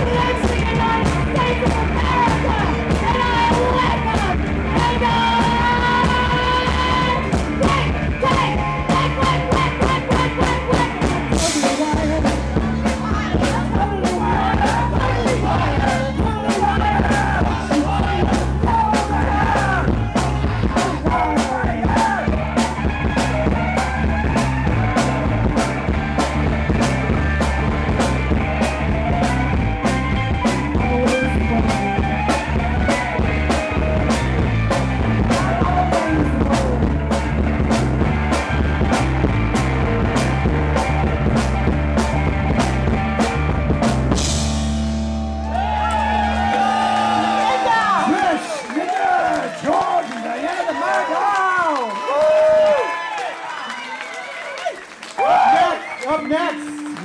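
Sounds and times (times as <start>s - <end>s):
punk rock band playing live: 0.0s - 48.5s.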